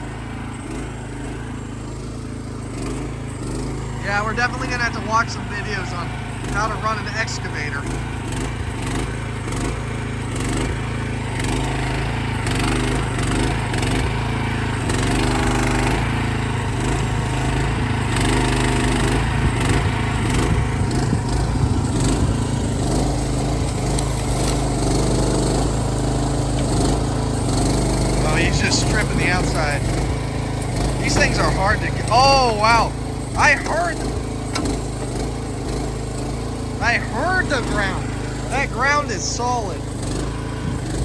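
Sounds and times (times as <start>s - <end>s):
excavator engine wavering: 0.0s - 41.0s.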